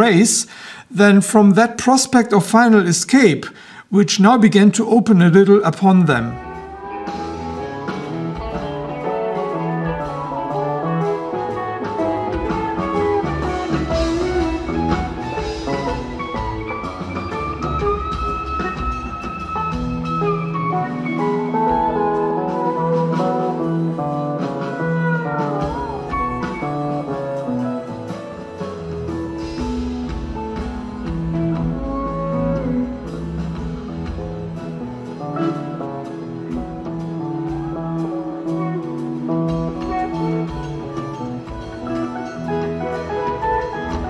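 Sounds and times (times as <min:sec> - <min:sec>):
guitar background music: 0:04.3 - 0:44.0.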